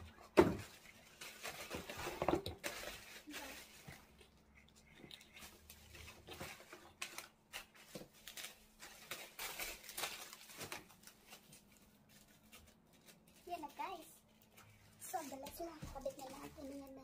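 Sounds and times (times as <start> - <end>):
plastic packaging crackles: 0.2 - 17.0
plastic wrap pulled: 0.4 - 4.2, 5.4 - 17.0.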